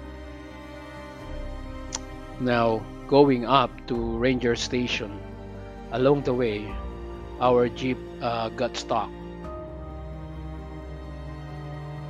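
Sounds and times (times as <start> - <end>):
music of long held notes: 0.0 - 12.0.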